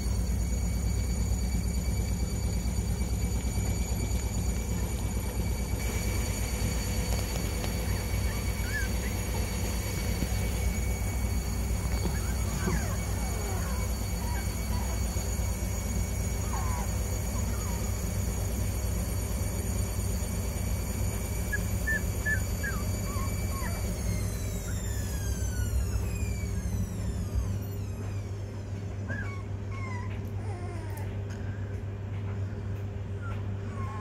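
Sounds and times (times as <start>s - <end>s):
motor humming and whining: 0.0s - 34.0s
puppies squeaking and whimpering: 1.4s - 19.0s, 21.2s - 31.7s, 33.1s - 34.0s.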